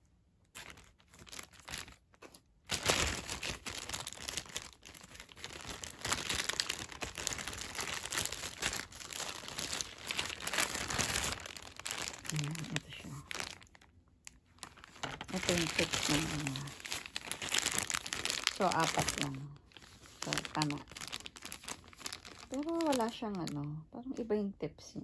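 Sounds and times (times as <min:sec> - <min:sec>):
plastic bag crinkling: 0:00.5 - 0:23.7.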